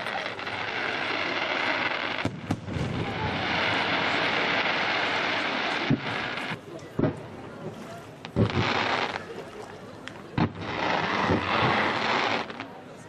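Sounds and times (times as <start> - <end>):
fireworks hissing crackle: 0.0 - 7.2, 8.2 - 9.4, 10.1 - 13.0
fireworks sharp bangs: 0.0 - 7.4, 8.2 - 9.3, 10.3 - 12.7.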